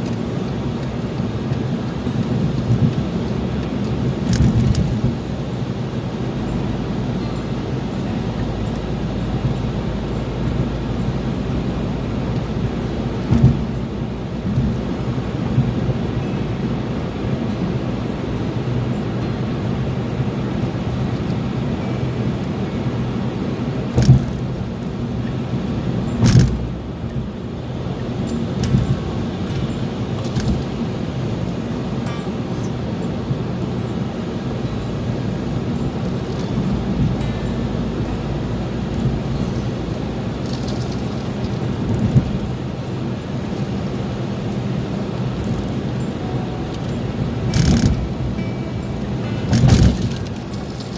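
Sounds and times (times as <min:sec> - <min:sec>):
car road and engine noise: 0:00.0 - 0:50.9.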